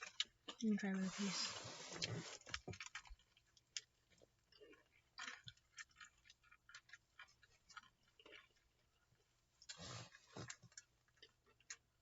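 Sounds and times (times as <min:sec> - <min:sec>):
chewing crispy fried chicken: 0:00.0 - 0:12.0.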